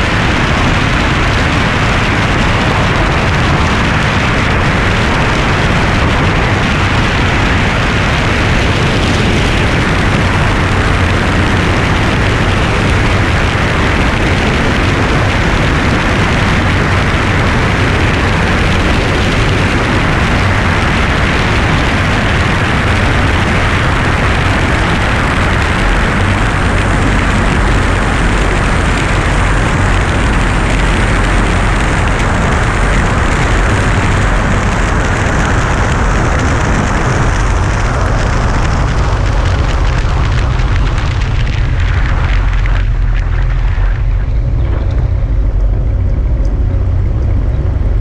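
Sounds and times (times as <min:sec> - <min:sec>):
aircraft engines droning: 0:00.0 - 0:48.0
wind buffeting microphone: 0:00.0 - 0:48.0.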